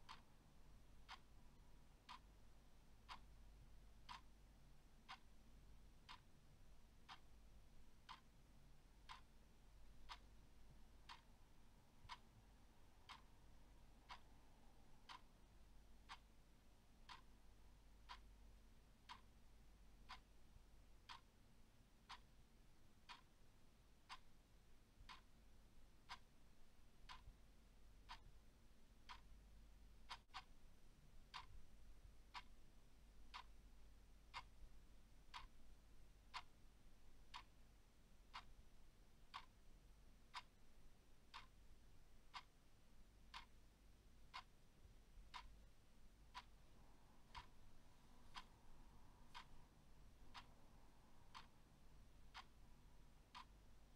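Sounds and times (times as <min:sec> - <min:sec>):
clock ticking: 0:00.0 - 0:53.9.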